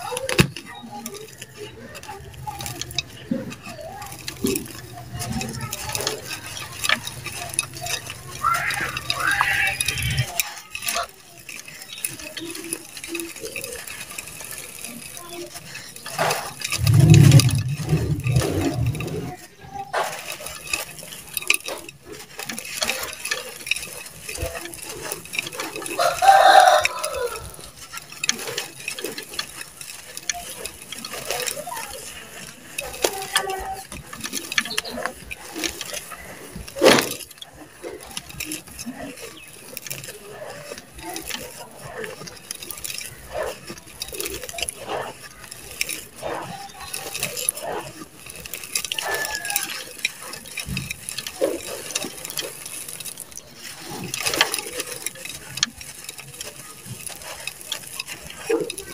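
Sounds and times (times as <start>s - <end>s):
crumbling chunks by hand: 0.0s - 58.9s
grains pattering into pot: 0.0s - 58.9s.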